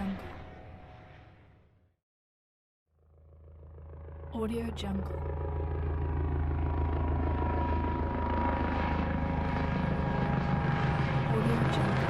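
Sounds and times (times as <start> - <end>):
helicopter rotor chop: 0.0 - 1.4, 3.4 - 12.0
helicopter engine rumble: 0.0 - 1.5, 3.0 - 12.0.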